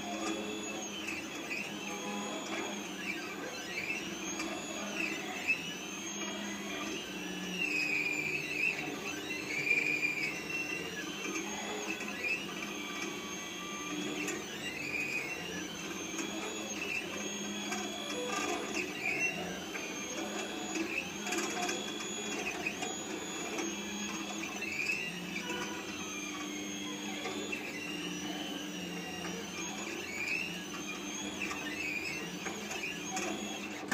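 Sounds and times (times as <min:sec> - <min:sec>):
motors whining in changing pitch: 0:00.0 - 0:33.9.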